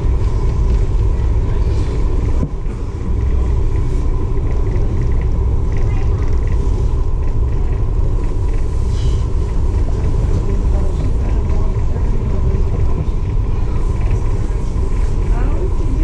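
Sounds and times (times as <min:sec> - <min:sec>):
faint steady hum: 0:00.0 - 0:16.0
ferry engine rumble: 0:00.0 - 0:16.0
faint background voices: 0:00.1 - 0:16.0.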